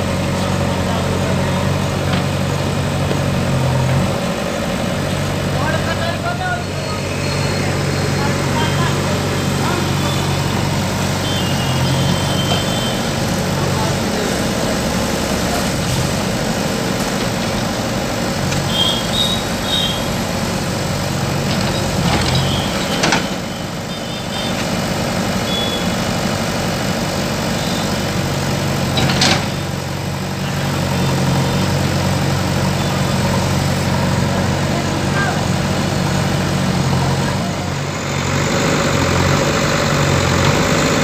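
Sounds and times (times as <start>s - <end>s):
diesel engines running: 0.0s - 41.0s.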